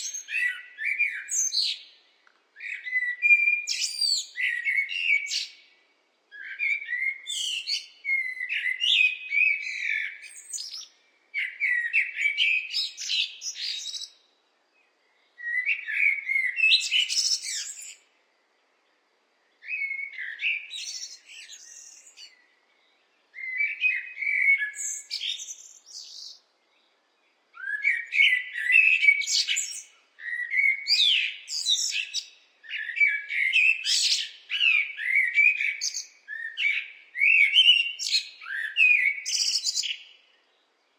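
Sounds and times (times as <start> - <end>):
blackbird singing: 0.0 - 14.3, 14.9 - 18.2, 19.6 - 40.8.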